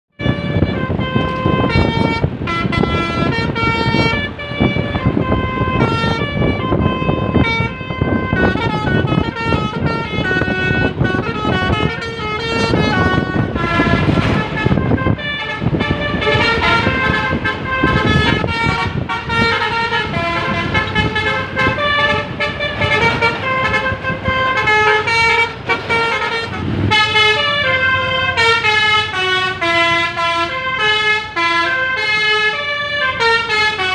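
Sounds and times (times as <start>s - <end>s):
low rumble of bus engine: 0.1s - 33.9s
multi-tone bus horn melody: 0.1s - 33.9s.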